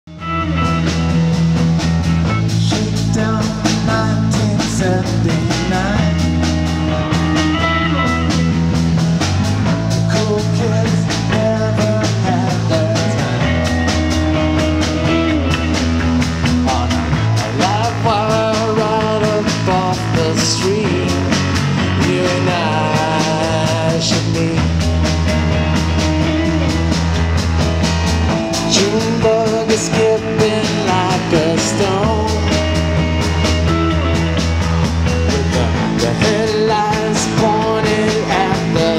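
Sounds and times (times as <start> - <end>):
drums: 0.0 - 38.9
keyboard: 0.0 - 38.9
low bass line: 0.0 - 38.9
electric guitar: 0.1 - 38.9.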